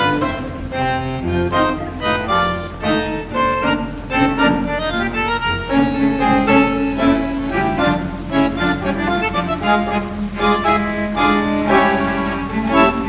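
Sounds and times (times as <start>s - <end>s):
instrumental music: 0.0s - 13.0s.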